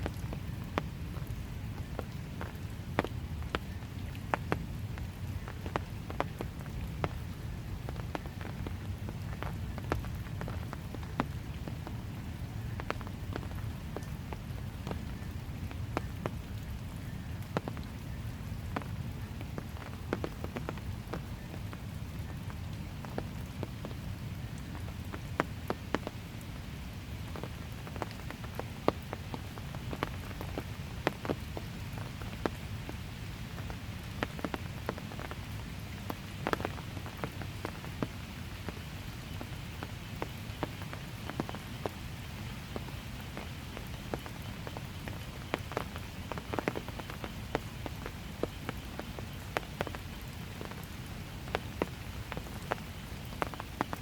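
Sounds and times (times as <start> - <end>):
light rain on pavement: 0.0 - 54.0
sharp drips: 0.0 - 54.0.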